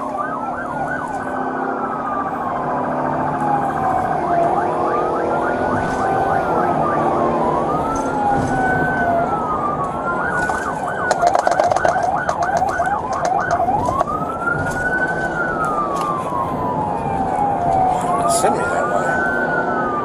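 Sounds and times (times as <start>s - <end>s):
police sirens wailing: 0.0s - 20.0s
siren fast yelp: 0.0s - 20.0s.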